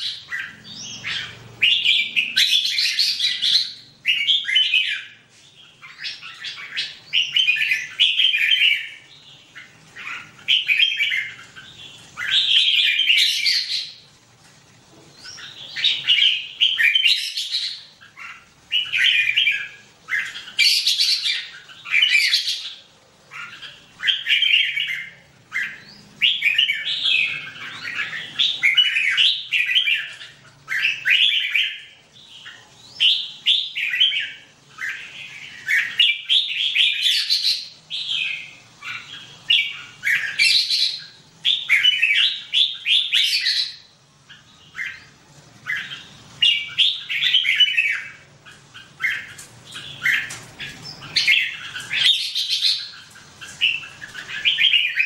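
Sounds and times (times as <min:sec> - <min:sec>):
birds singing short phrases: 0:00.0 - 0:14.1, 0:15.1 - 0:55.0.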